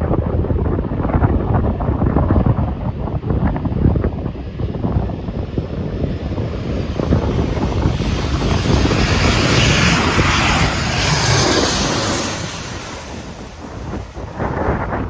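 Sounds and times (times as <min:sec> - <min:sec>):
airliner engines passing overhead: 0:00.0 - 0:15.0
wind buffeting microphone: 0:00.0 - 0:15.0.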